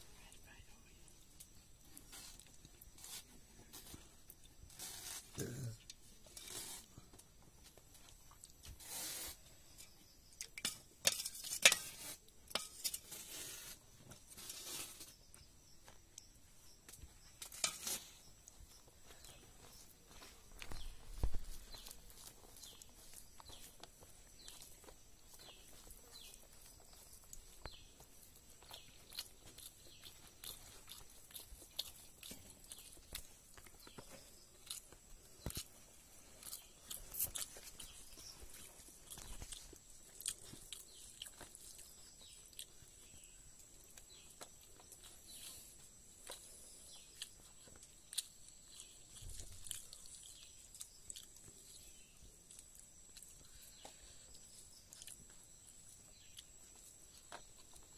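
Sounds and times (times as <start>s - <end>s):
faint chewing: 0.0s - 57.9s
fingers working rice on a leaf: 1.4s - 10.0s, 10.6s - 16.3s, 17.2s - 55.2s.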